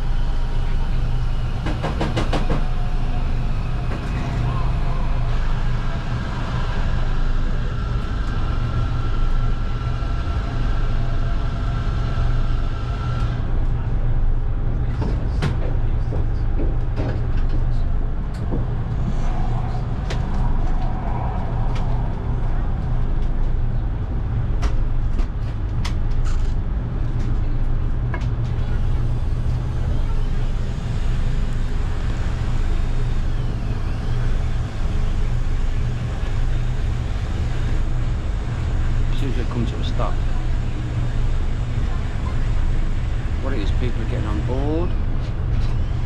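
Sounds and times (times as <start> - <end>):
boat engines droning: 0.0 - 46.0.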